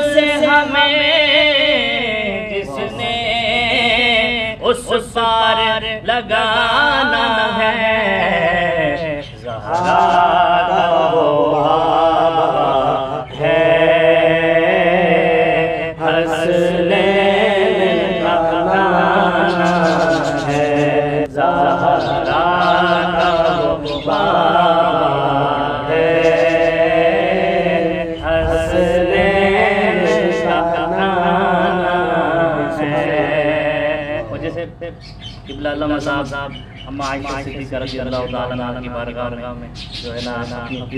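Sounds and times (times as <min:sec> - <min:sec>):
man chanting devotional song: 0:00.0 - 0:40.9.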